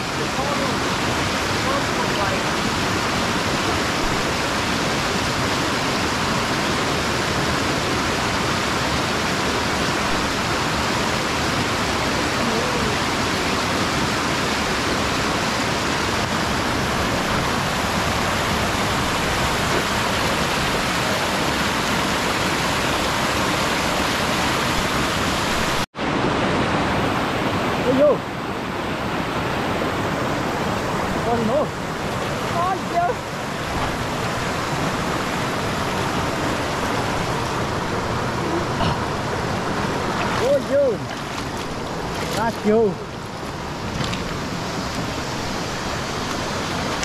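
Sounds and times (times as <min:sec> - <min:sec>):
fast-flowing water rushing: 0:00.0 - 0:47.0.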